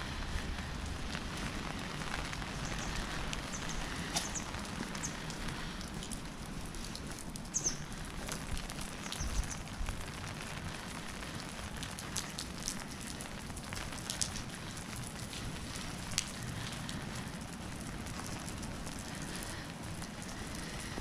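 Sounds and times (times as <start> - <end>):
heavy rain falling: 0.0 - 21.0
raindrops ticking: 0.0 - 21.0.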